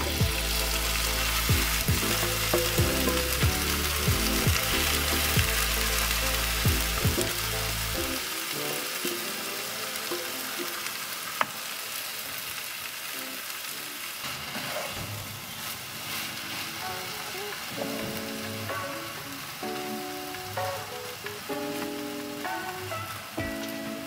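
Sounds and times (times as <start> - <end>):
background music with low notes: 0.0 - 12.3, 16.5 - 24.0
meat sizzling in a frying pan: 0.0 - 24.0.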